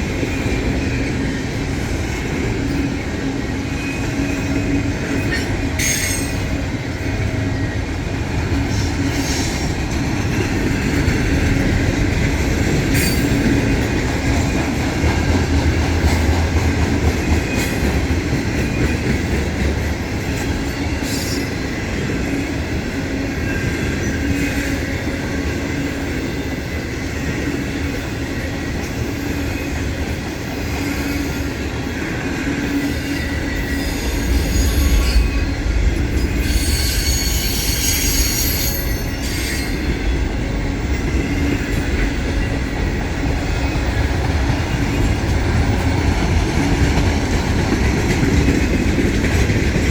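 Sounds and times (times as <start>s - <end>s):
freight train cars rolling: 0.0s - 49.9s
steel wheels clicking on rail: 8.1s - 22.2s, 22.8s - 49.9s.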